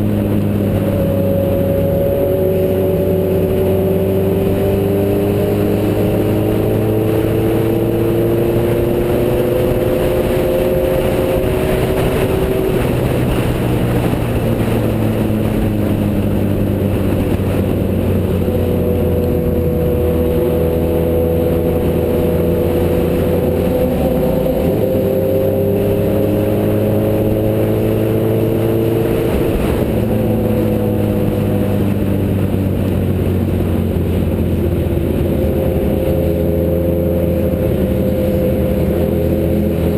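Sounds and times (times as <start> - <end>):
low rumble of wind: 0.0 - 39.9
motorcycle engine running: 0.0 - 39.9.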